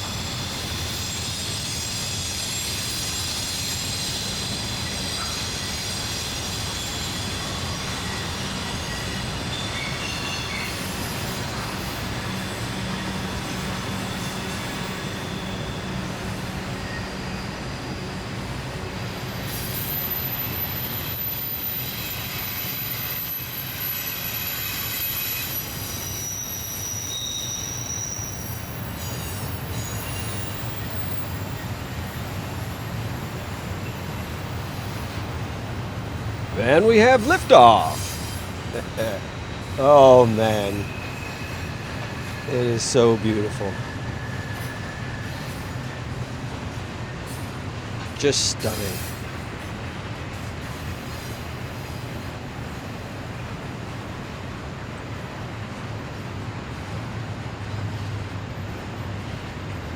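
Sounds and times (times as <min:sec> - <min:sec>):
train wheels squealing: 0:00.0 - 0:36.4, 0:37.8 - 0:39.8, 0:40.6 - 0:42.5, 0:43.1 - 0:59.9
rumble of rolling train: 0:00.0 - 0:36.6, 0:37.9 - 0:59.9.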